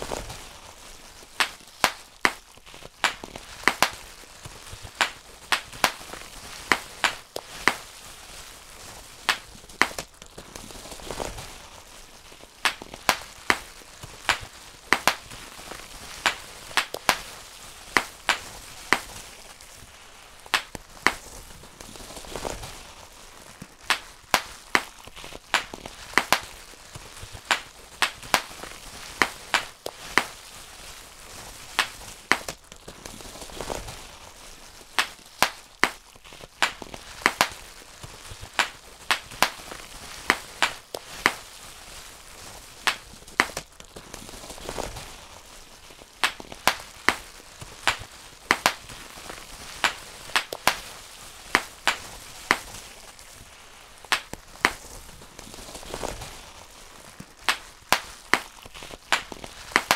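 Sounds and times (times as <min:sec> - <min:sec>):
bubble wrap popping: 0:00.0 - 0:59.9
plastic sheet crinkling: 0:00.0 - 0:59.9.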